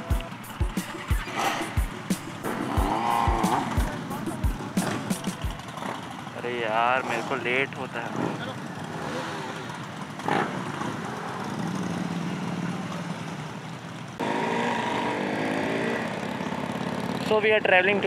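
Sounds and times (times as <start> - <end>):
motorcycle engine on the move: 0.0 - 18.0
motorcycle engines idling: 0.0 - 18.0.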